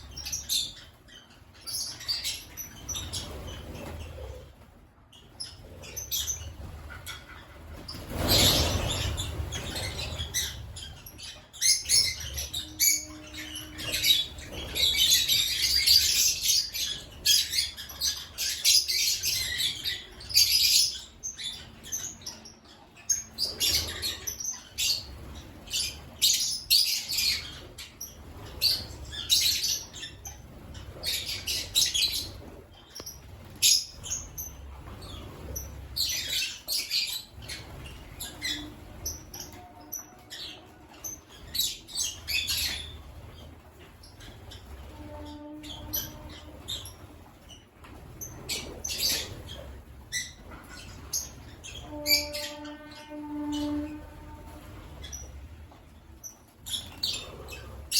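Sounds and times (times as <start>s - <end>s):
lovebirds chirping and chattering: 0.0s - 57.9s.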